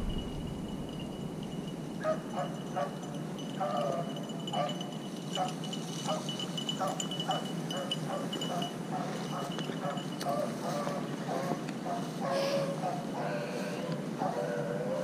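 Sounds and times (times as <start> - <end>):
hounds baying: 2.0 - 15.0.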